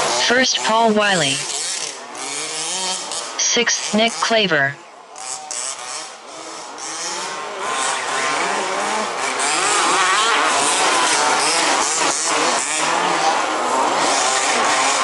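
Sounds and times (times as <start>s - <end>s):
rc buggy engines revving: 0.0s - 15.0s.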